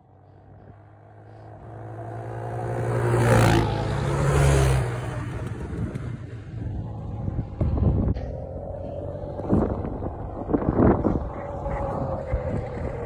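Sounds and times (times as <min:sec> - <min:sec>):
quad engines racing past: 0:00.0 - 0:13.0.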